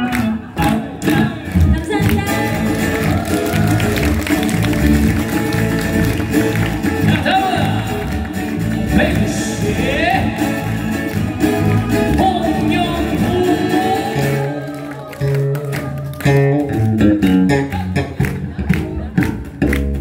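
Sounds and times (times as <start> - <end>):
bass line: 0.0 - 20.0
live band music: 0.0 - 20.0.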